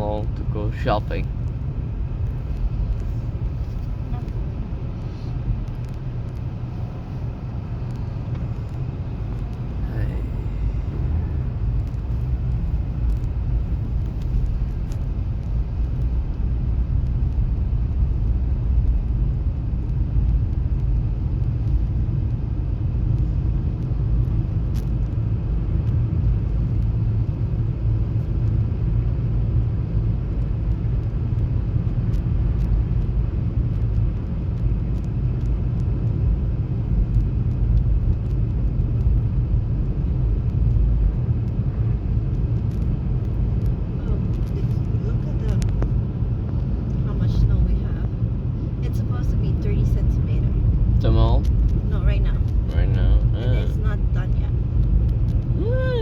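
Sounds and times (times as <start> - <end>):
car rumble inside cabin: 0.0 - 56.0
tyre and road noise: 0.0 - 56.0.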